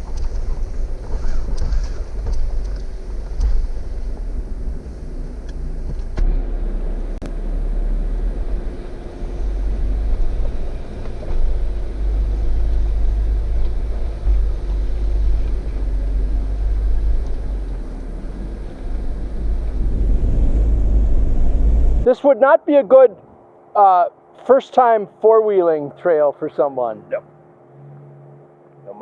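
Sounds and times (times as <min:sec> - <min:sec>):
engine rumbling at low speed: 0:00.0 - 0:29.0.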